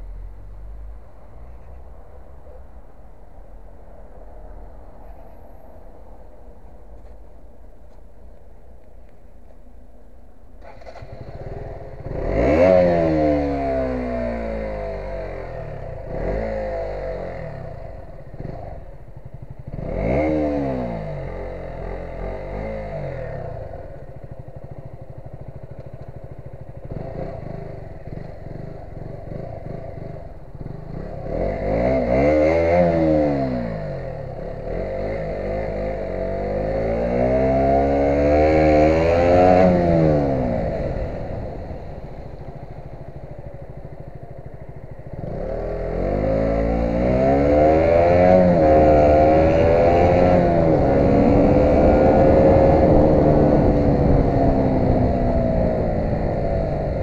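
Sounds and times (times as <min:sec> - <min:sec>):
motorcycle engine revving: 0:10.6 - 0:57.0.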